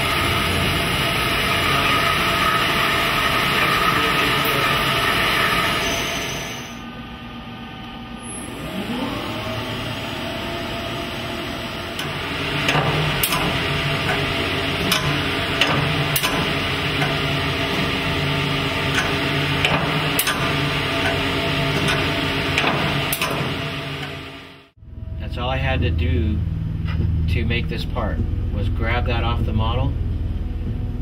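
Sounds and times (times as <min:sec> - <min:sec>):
machine spindle whine: 0:00.0 - 0:31.0.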